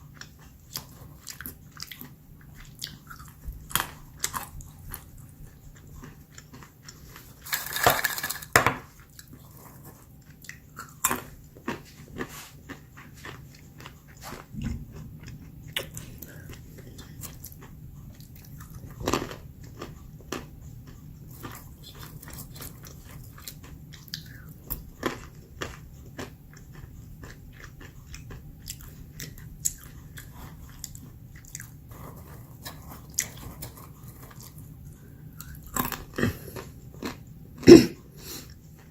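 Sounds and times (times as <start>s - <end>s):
chewing crunchy almonds: 0.0s - 38.9s.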